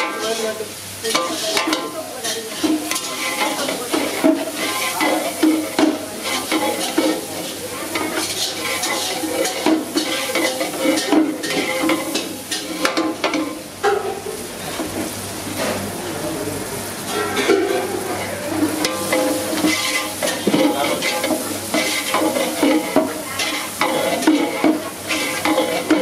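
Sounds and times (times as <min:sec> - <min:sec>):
utensil scraping and clanking on pan: 0:00.0 - 0:15.8, 0:17.1 - 0:26.0
oil sizzling in pan: 0:00.0 - 0:26.0.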